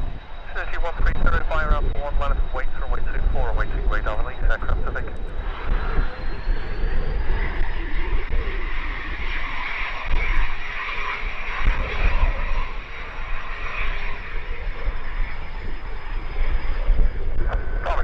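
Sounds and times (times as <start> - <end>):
jet engines whining: 0.0 - 18.0
wind buffeting microphone: 0.0 - 18.0.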